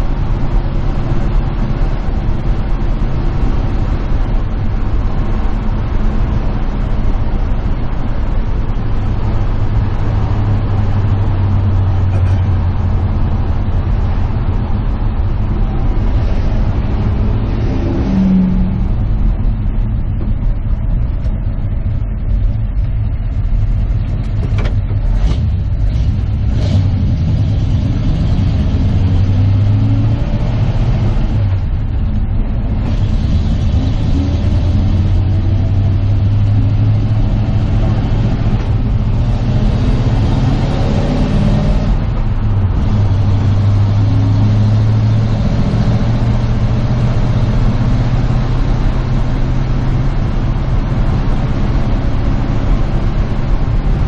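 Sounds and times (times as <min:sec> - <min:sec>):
truck engine and road noise: 0:00.0 - 0:54.0.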